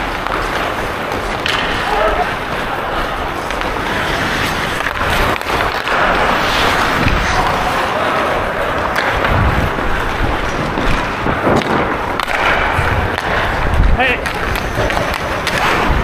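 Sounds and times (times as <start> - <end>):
skate blades scraping ice: 0.0 - 16.0.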